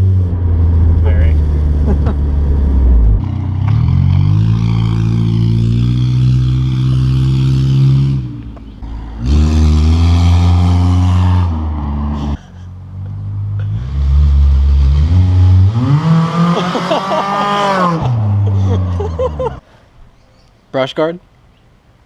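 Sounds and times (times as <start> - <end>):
car engine accelerating: 0.0 - 19.6.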